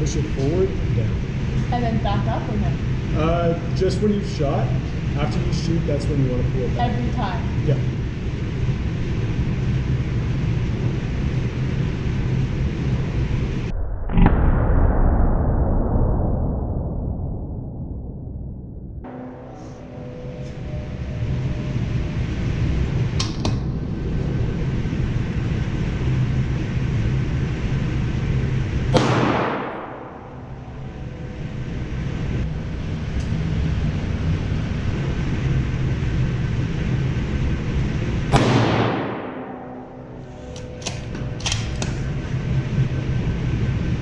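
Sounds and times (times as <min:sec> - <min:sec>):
low rumble: 0:00.0 - 0:44.0.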